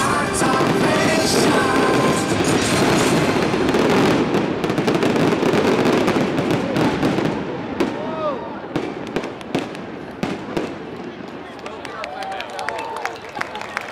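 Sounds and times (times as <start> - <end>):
fireworks bangs and crackling: 0.0 - 11.7.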